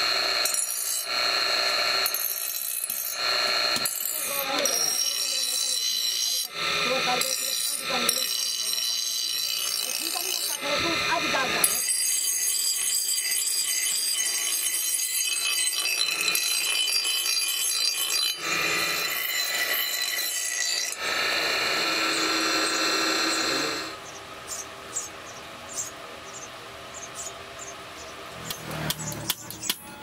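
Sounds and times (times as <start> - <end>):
bench grinder grinding steel: 0.0 - 25.0, 28.3 - 30.0.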